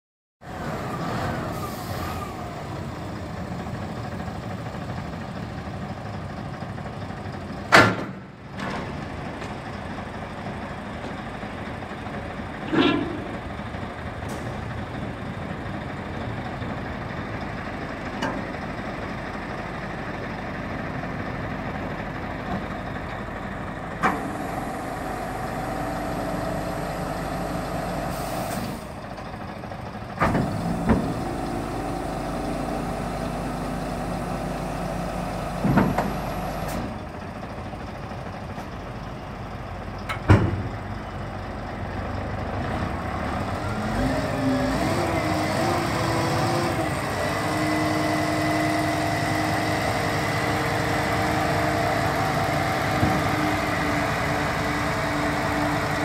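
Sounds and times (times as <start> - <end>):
diesel truck engine idling: 0.5 - 56.0.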